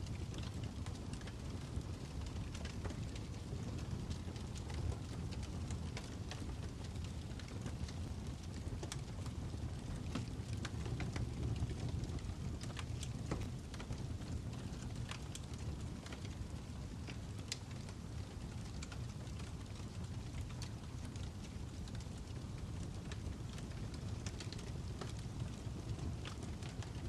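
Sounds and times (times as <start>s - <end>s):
fire crackling with pops: 0.0s - 27.0s.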